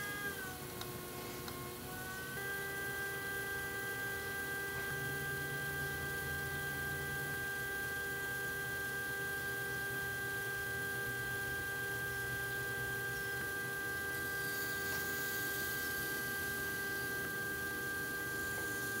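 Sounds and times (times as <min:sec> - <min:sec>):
pottery wheel motor whine: 0:00.0 - 0:19.0.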